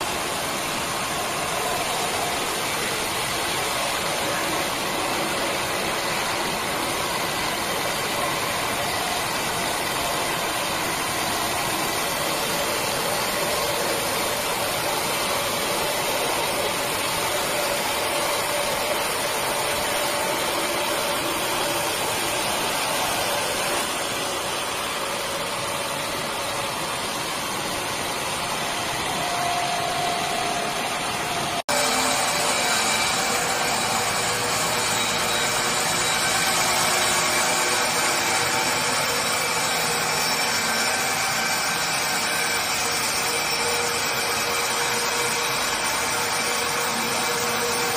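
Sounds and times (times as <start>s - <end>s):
band sawmill running: 0.0s - 47.9s.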